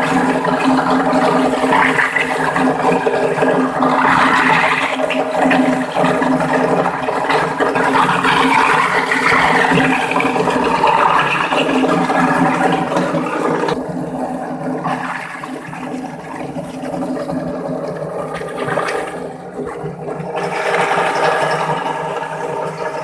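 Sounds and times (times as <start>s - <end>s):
plastic grinding machine churning: 0.0s - 23.0s.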